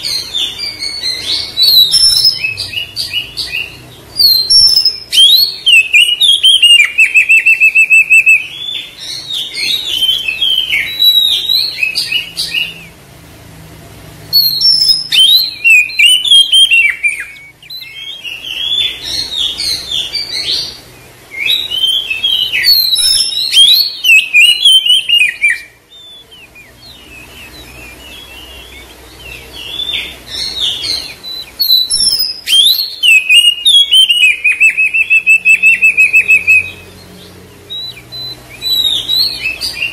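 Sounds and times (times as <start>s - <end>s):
bird singing whistled phrases: 0.0s - 13.0s, 14.3s - 39.9s.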